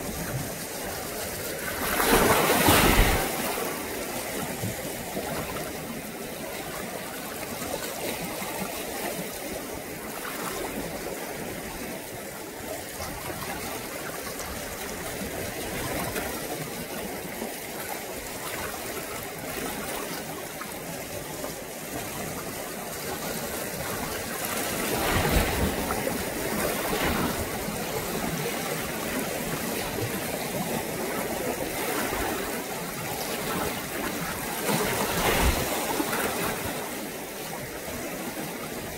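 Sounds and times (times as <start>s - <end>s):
sea water lapping and sloshing: 0.0s - 38.9s.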